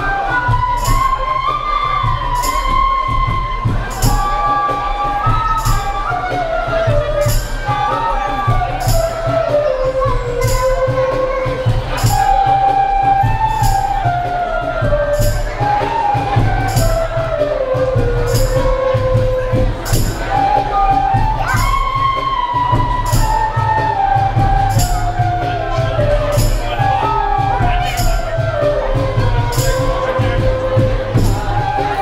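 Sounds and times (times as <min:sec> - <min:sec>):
bamboo flutes playing melody: 0:00.0 - 0:32.0
low drum beat: 0:00.0 - 0:32.0.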